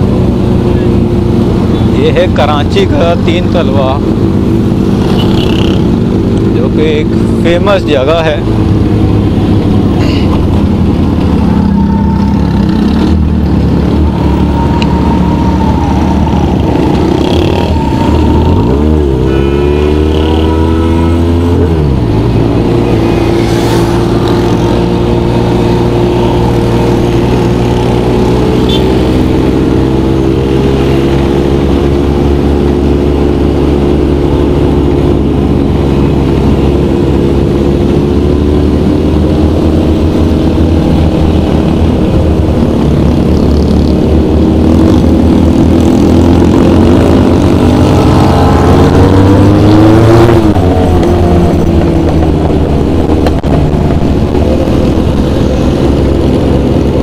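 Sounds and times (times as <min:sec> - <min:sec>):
road and wind rumble: 0:00.0 - 0:57.0
vehicle engine running: 0:00.0 - 0:57.0.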